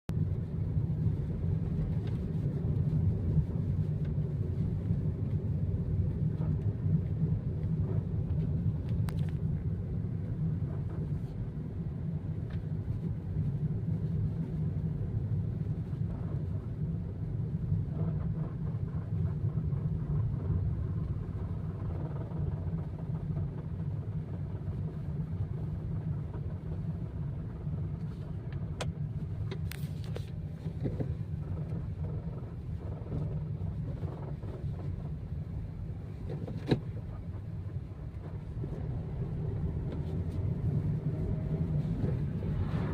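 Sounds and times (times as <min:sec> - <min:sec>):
car engine low rumble: 0:00.0 - 0:42.9
engine rattle: 0:00.1 - 0:42.9.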